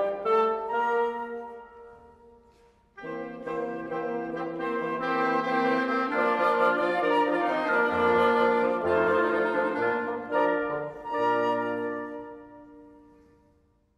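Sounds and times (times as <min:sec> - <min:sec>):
low bassoon line: 0:00.0 - 0:13.6
woodwind quintet playing chords: 0:00.0 - 0:13.6.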